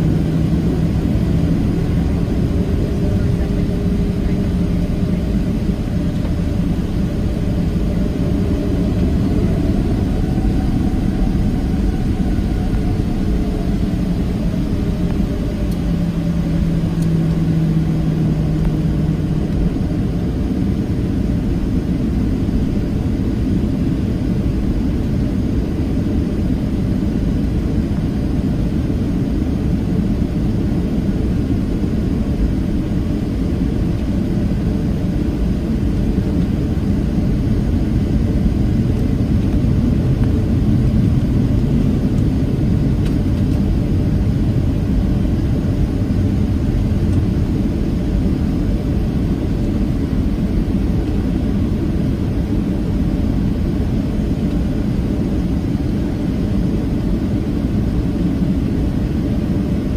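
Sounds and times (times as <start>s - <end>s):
jet cabin low rumble: 0.0s - 59.9s
low hum: 0.0s - 59.9s.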